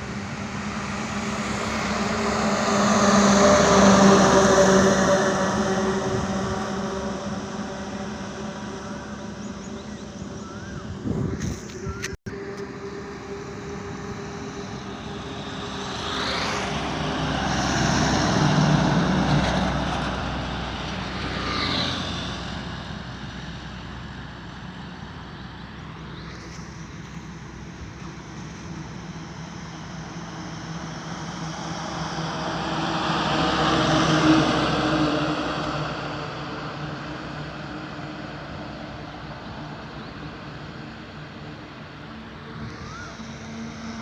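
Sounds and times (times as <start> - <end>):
highway traffic passing: 0.0 - 44.0.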